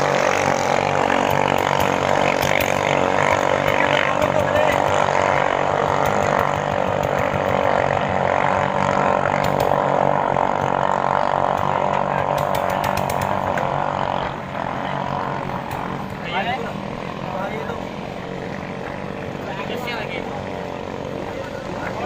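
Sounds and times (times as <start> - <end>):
boat engines buzzing: 0.0 - 22.0.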